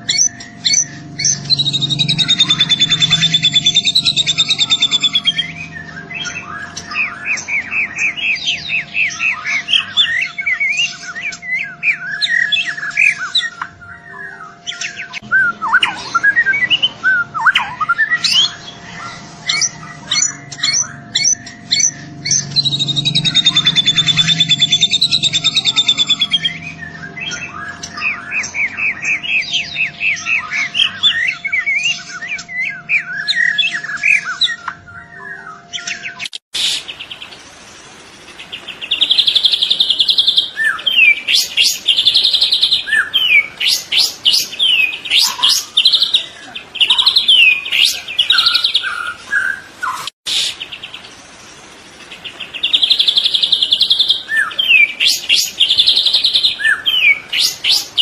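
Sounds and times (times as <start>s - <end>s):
bird singing whistles and trills: 0.0s - 37.3s, 38.6s - 51.0s, 52.2s - 58.0s.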